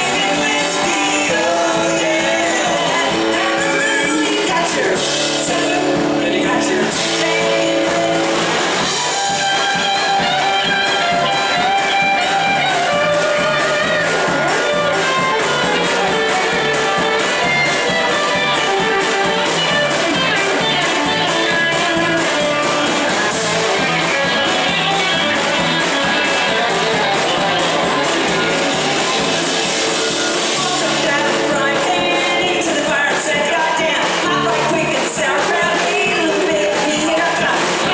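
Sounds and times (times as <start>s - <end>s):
electric guitar: 0.0s - 37.9s
live band playing rock song: 0.0s - 37.9s
person singing: 0.0s - 37.9s.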